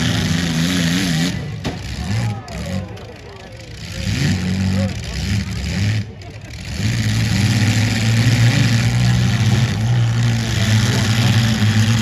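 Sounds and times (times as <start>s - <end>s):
car engines revving: 0.0s - 12.0s
crowd noise: 0.0s - 12.0s.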